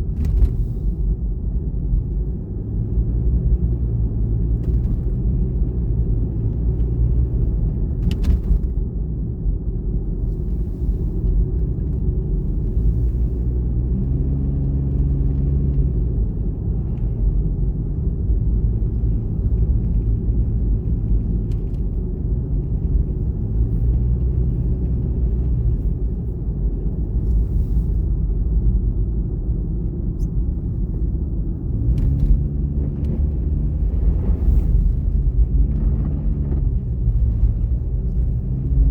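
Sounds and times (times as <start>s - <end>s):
engine hum: 0.0s - 38.9s
tyre and engine rumble: 0.0s - 38.9s.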